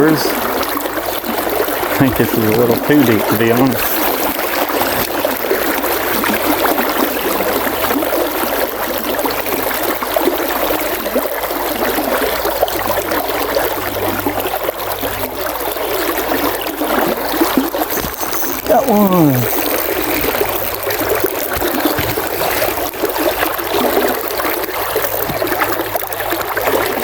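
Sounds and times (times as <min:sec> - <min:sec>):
river water flowing: 0:00.0 - 0:27.0.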